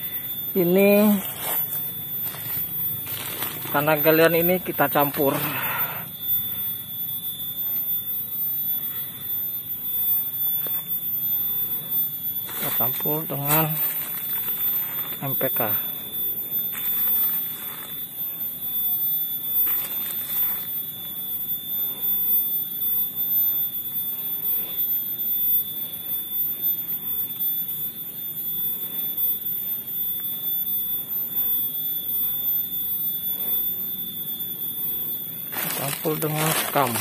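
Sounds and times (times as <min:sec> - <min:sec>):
steady high-pitched tone: 0:00.0 - 0:37.0.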